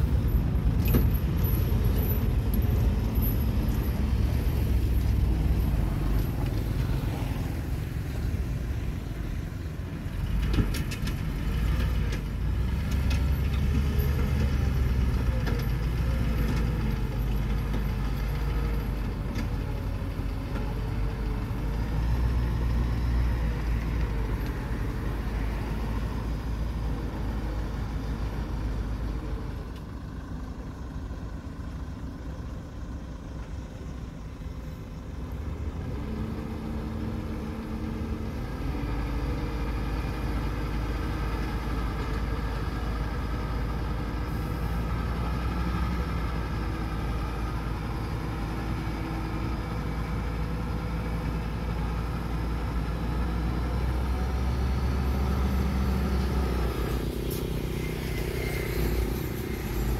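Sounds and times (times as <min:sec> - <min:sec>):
dump truck diesel engine: 0:00.0 - 0:59.9.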